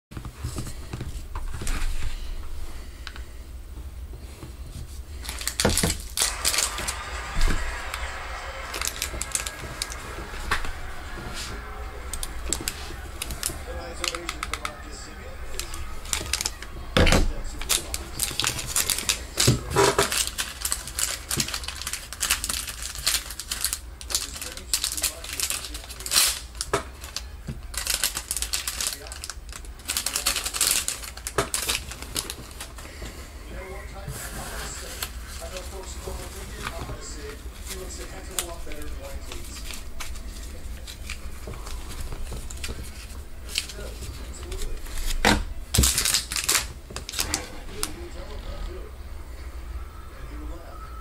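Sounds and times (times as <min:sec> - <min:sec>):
crinkling: 0:04.2 - 0:48.8.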